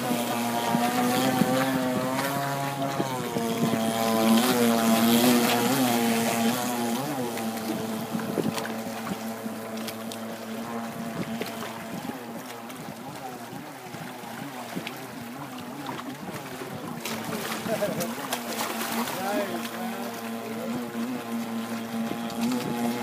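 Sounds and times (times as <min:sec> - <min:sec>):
model speedboat engine: 0:00.0 - 0:23.0.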